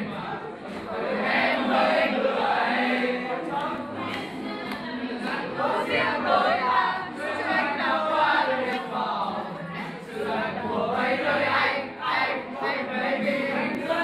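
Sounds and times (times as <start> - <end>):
group singing in chorus: 0.0 - 14.0.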